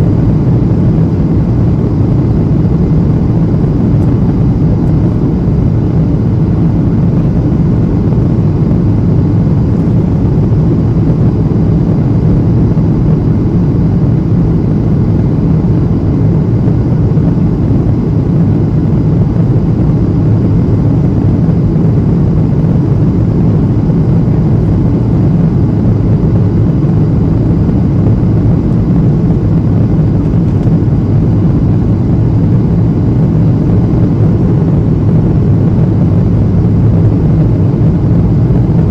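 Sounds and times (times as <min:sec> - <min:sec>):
airplane cabin engine rush: 0:00.0 - 0:38.9.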